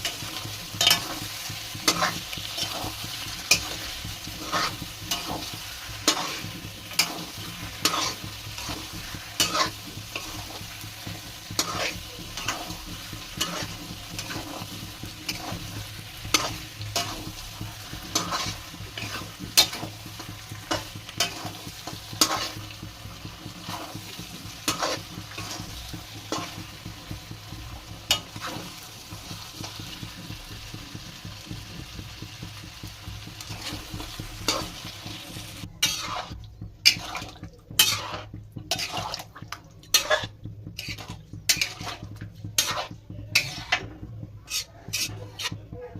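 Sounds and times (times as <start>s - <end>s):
curry sizzling in a pan: 0.0s - 45.9s
spatula scraping a pan: 0.0s - 45.9s.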